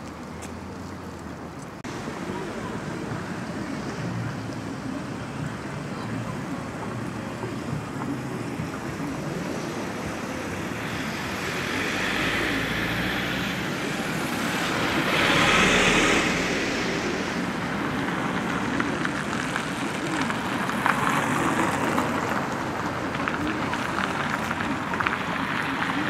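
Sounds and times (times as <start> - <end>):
city street traffic: 0.0 - 26.0
minibus driving past: 1.8 - 26.0.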